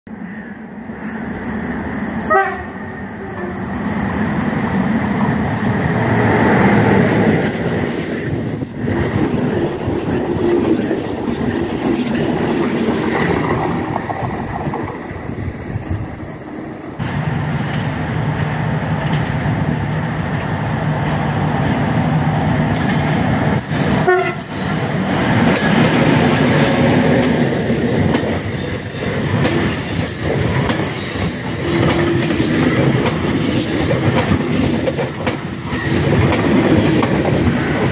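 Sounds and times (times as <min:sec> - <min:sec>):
passenger train passing: 0:00.1 - 0:37.9
wheel and rail noise: 0:00.2 - 0:37.9.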